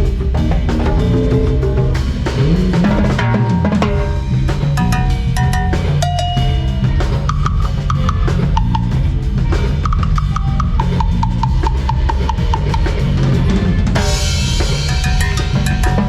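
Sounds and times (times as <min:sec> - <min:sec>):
bass line: 0:00.0 - 0:16.0
drum kit playing: 0:00.0 - 0:16.0.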